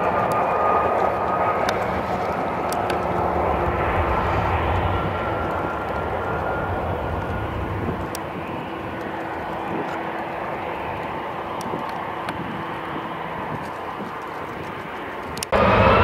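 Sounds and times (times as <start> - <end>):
rushing jet engine noise: 0.0 - 16.0.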